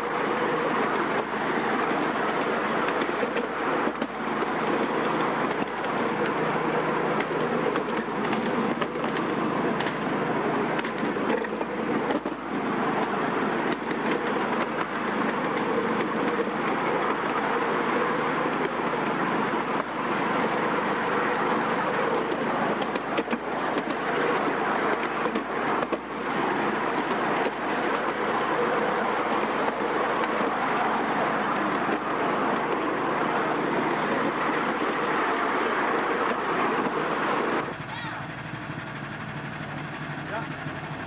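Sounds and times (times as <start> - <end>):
wheel-on-rail rumble: 0.0 - 41.0.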